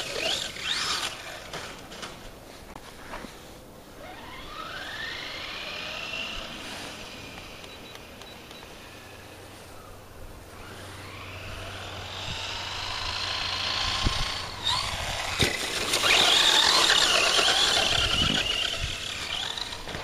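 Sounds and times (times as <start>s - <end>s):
electric motor whine: 0.0s - 1.8s, 4.0s - 20.0s.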